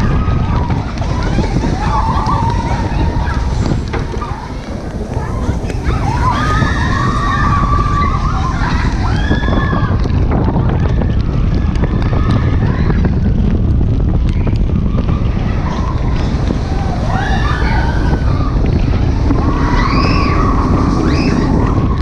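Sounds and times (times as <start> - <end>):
high wavering sounds: 0.0 - 10.4, 14.7 - 22.0
roller coaster wheels rumbling: 0.0 - 22.0
wind buffeting microphone: 0.0 - 22.0.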